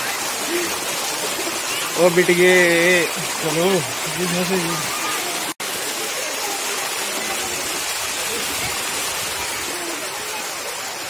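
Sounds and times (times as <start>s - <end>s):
faint voices: 0.0s - 11.0s
rushing falling water: 0.0s - 11.0s.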